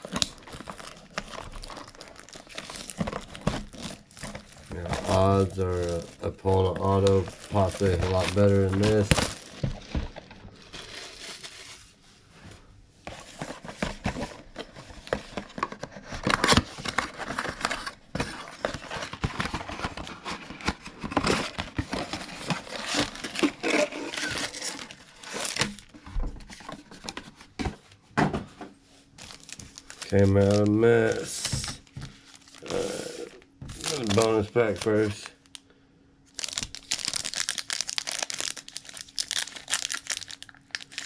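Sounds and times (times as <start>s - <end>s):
plastic wrapping tearing and crinkling: 0.0s - 11.9s, 14.8s - 26.6s, 29.2s - 35.6s, 36.3s - 41.0s.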